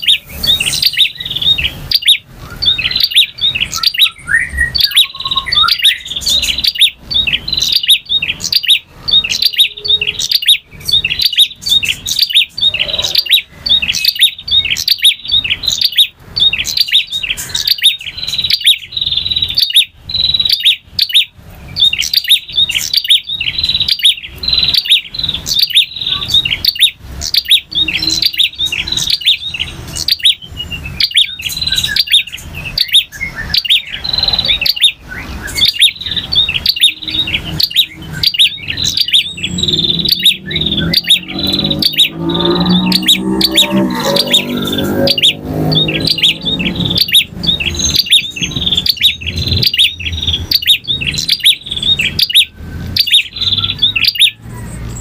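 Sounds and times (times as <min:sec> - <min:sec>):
bird chirping rapidly: 0:00.0 - 0:55.0.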